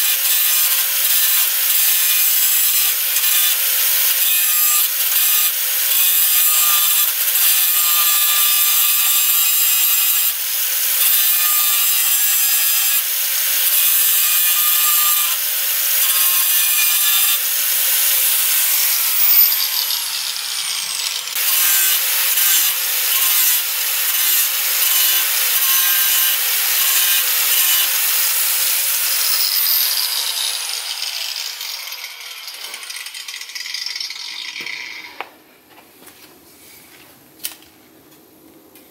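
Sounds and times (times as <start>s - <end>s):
angle grinder cutting metal: 0.0s - 35.3s.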